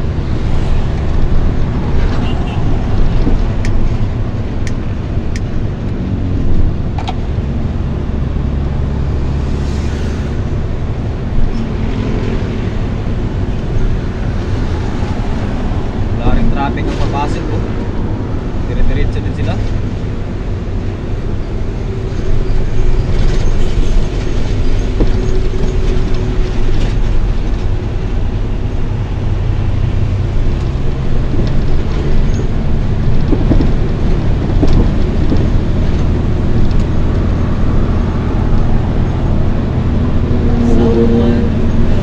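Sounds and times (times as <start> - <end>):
heavy vehicle engine running: 0.0 - 42.0
road rumble: 0.0 - 42.0.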